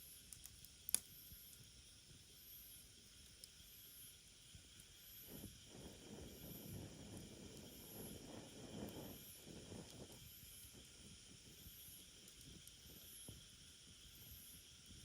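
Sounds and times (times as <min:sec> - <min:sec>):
wood fire crackling and hissing: 0:00.0 - 0:15.0.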